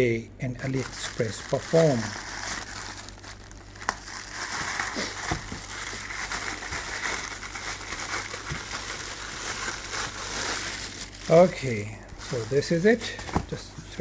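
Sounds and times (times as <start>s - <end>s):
plastic packaging crinkling: 0.5s - 14.0s.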